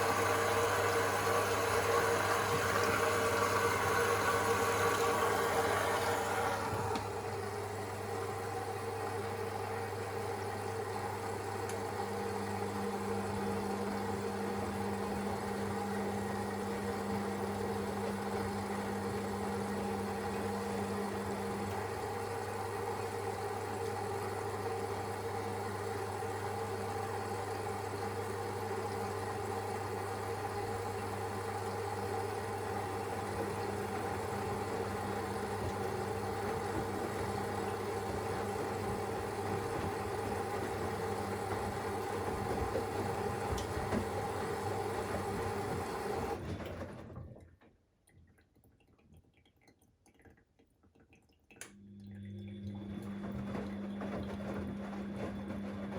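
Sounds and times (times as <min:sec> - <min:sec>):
washing machine humming: 0:00.0 - 0:47.6, 0:50.9 - 0:55.9.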